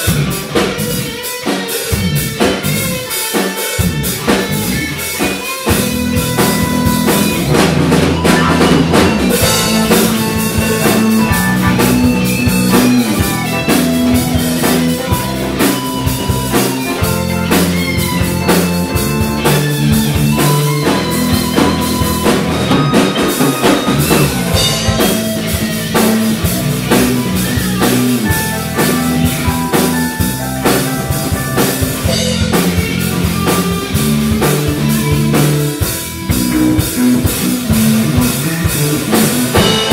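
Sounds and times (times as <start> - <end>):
bass guitar: 0.0 - 39.9
drum kit: 0.0 - 39.9
electric guitar: 0.0 - 39.9
keyboard: 0.0 - 39.9.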